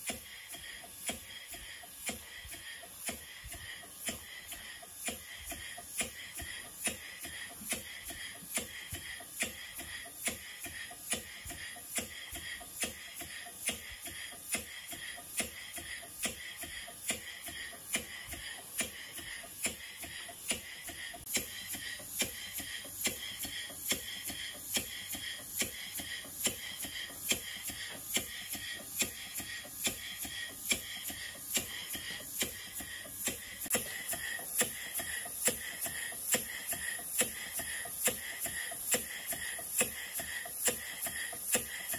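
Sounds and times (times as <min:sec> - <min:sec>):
model steam engine knocking: 0:00.0 - 0:41.9
steam hiss: 0:00.0 - 0:41.9.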